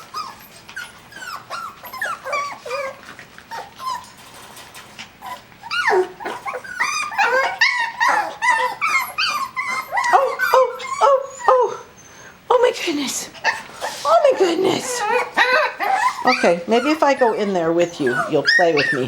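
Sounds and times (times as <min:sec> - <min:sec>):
puppies whining and yipping: 0:00.0 - 0:12.4, 0:13.4 - 0:19.0.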